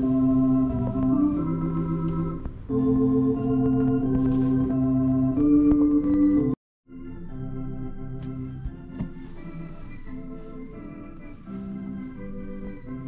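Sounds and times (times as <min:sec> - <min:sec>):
organ playing held chords: 0:00.0 - 0:13.0.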